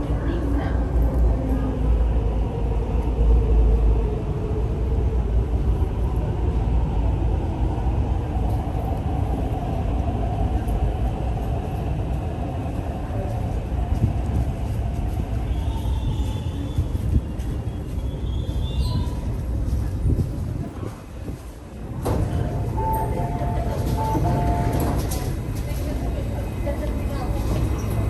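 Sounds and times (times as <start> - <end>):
train rumbling from inside: 0.0 - 28.0.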